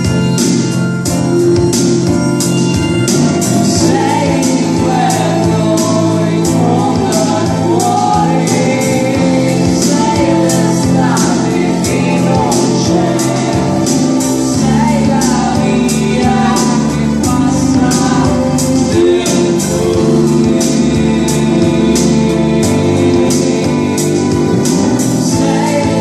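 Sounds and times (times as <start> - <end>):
man singing: 3.1 - 26.0.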